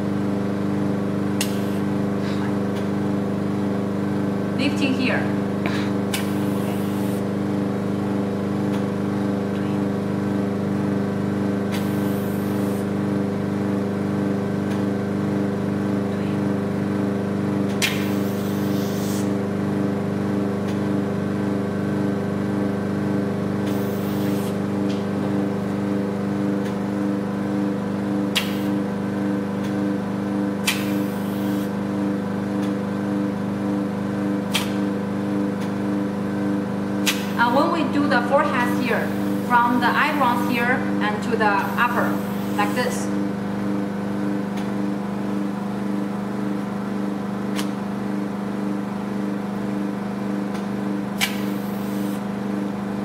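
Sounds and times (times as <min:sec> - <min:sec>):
suction pump humming: 0:00.0 - 0:53.0.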